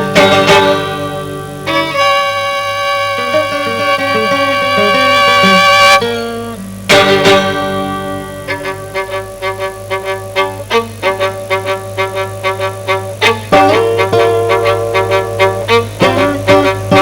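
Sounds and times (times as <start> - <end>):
guitar chords and plucked notes: 0.0 - 17.0
steady low hum: 0.0 - 17.0
violin note with vibrato: 0.0 - 17.0.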